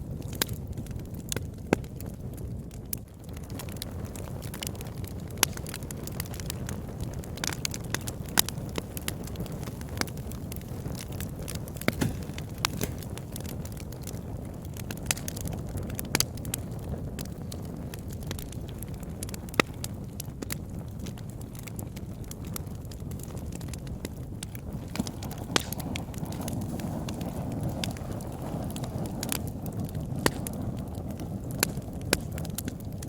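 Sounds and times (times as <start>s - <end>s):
fire crackling and popping: 0.0s - 33.0s
fire rumbling: 0.0s - 33.0s.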